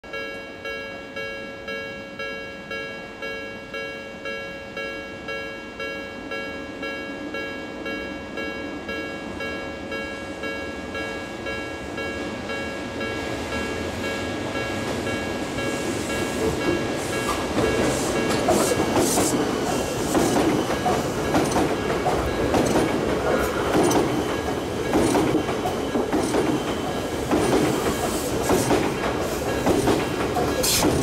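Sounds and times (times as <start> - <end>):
level crossing warning bell: 0.0 - 28.2
electric train approaching: 5.2 - 31.0.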